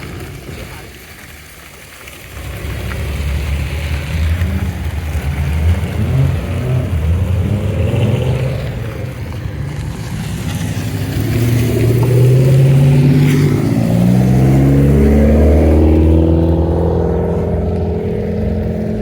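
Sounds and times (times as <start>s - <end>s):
car engine accelerating: 2.3s - 19.0s.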